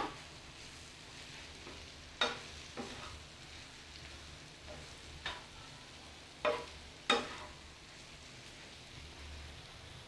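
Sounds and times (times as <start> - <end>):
faint sizzle: 0.0 - 10.0.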